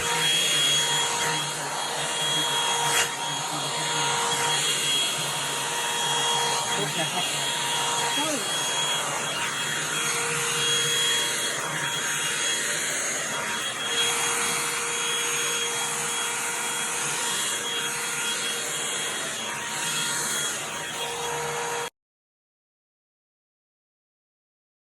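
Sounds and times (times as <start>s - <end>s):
hair dryer running: 0.0s - 21.9s.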